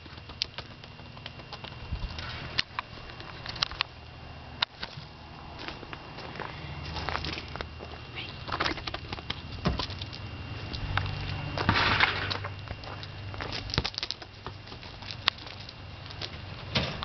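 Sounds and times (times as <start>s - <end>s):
rabbit hopping on paving: 0.0s - 17.0s.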